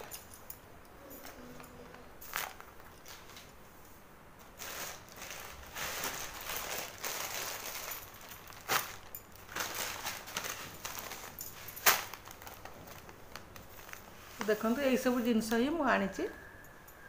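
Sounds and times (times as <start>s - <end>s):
plastic bags rustling: 0.0s - 15.8s.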